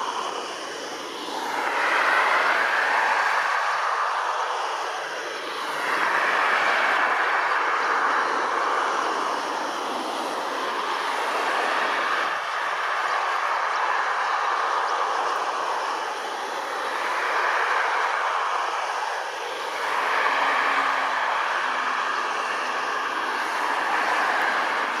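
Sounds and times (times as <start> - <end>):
distant jet engines whooshing: 0.0 - 25.0.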